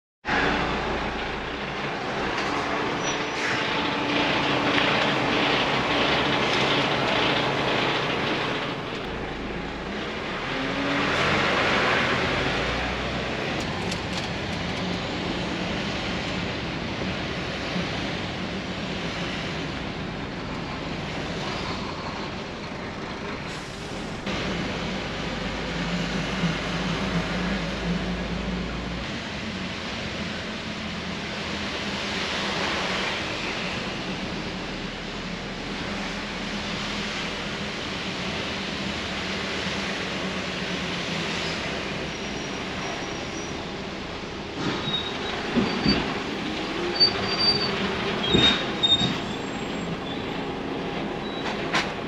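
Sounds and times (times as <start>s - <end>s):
road noise: 0.2s - 52.0s
diesel truck engine humming: 0.3s - 51.4s.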